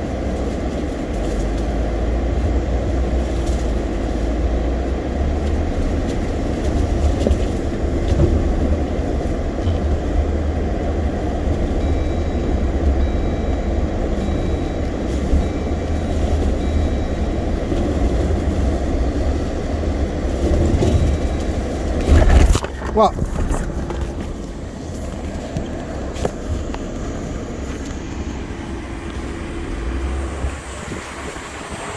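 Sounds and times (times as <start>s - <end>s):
vehicle driving rumble: 0.0s - 31.9s.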